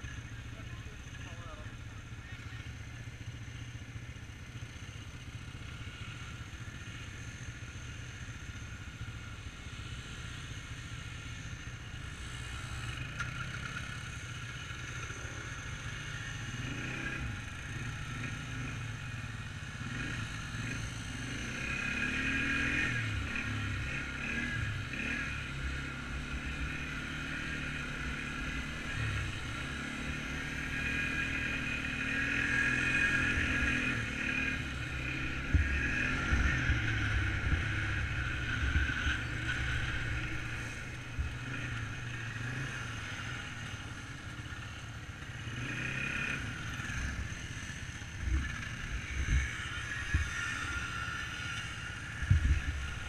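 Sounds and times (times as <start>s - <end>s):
quad engine idling and revving: 0.0s - 53.0s.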